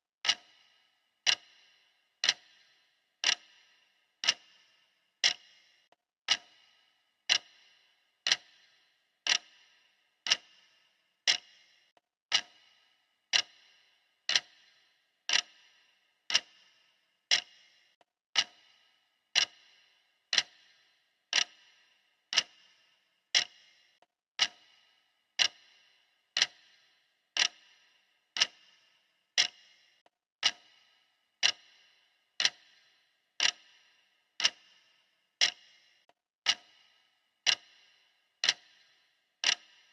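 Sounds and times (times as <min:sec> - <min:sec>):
clock ticking: 0:00.2 - 0:39.9.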